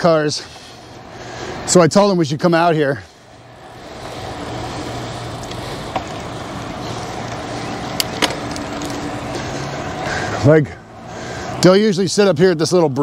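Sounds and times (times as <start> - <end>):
bicycle rolling noise: 0.0 - 13.0.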